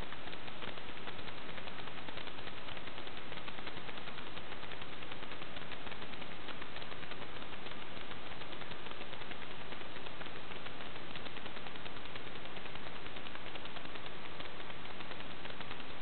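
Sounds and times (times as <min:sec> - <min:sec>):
riding lawn mower engine ticking: 0:00.0 - 0:16.0.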